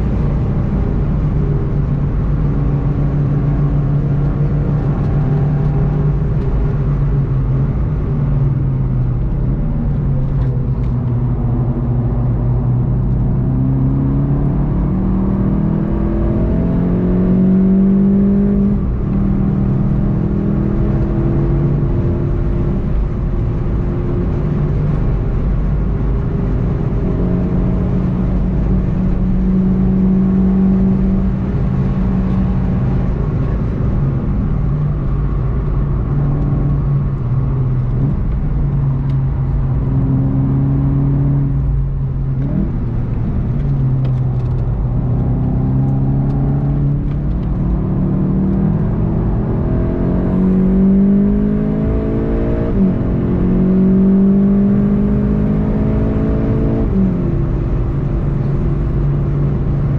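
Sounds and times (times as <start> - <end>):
car engine running hard: 0.0 - 59.9
wind and road noise: 0.0 - 59.9.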